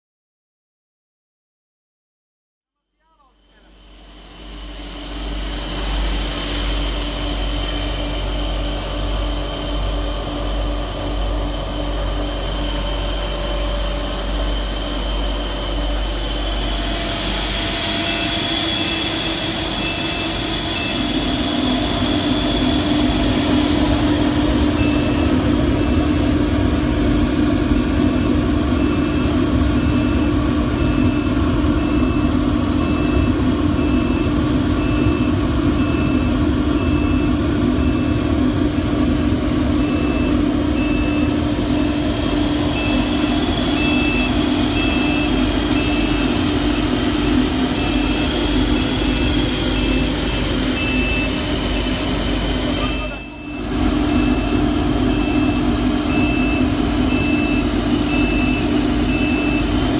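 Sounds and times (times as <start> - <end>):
pulsing high tone: 3.1 - 59.9
machine hum and rush: 3.3 - 59.9.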